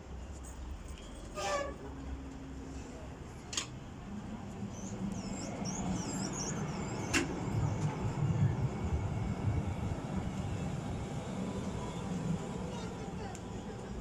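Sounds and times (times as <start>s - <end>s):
tram motors and wheels rumbling: 0.0s - 14.0s.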